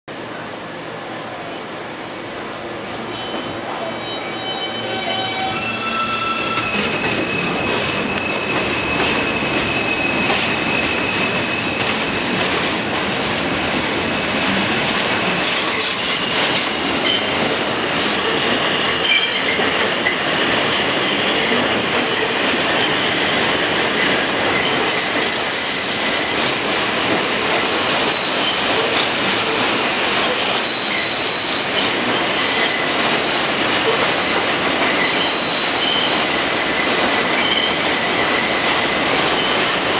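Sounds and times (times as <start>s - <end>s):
train rumbling and clattering: 0.1s - 39.9s
train wheels squealing on rails: 3.0s - 12.9s, 15.2s - 39.9s.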